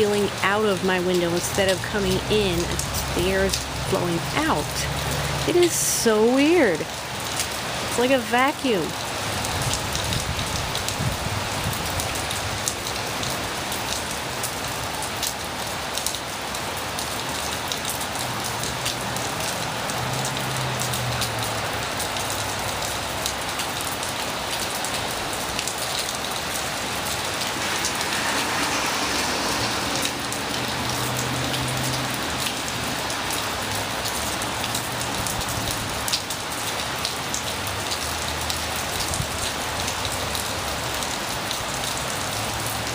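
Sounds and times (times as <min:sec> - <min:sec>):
rain drop ticks: 0:00.0 - 0:28.6, 0:29.6 - 0:42.9
heavy rain pouring: 0:00.0 - 0:42.9.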